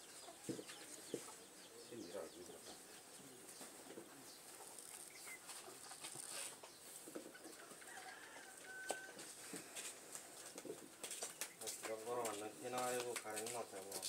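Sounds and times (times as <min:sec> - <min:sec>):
chicken clucking: 0:00.0 - 0:12.4
small birds calling: 0:00.0 - 0:14.0.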